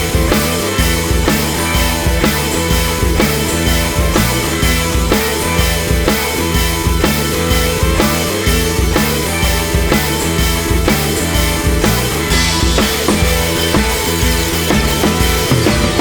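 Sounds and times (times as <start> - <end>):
rock music with drum beat: 0.0 - 16.0.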